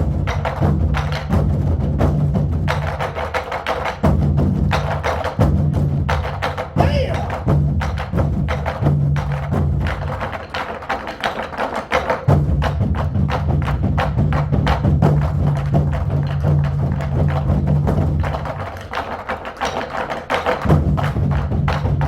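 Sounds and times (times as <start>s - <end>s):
barrel drums struck rapidly: 0.0s - 22.0s.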